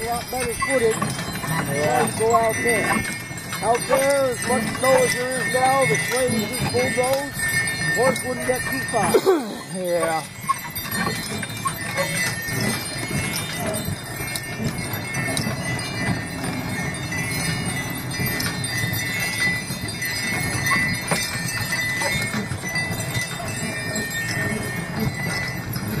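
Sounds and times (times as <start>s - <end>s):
sleigh bells jingling: 0.0s - 26.0s.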